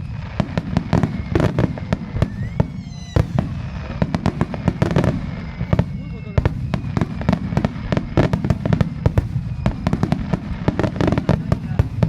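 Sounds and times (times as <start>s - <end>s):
firework whistle: 0.0s - 12.0s
fireworks bangs and cracks: 0.0s - 12.0s.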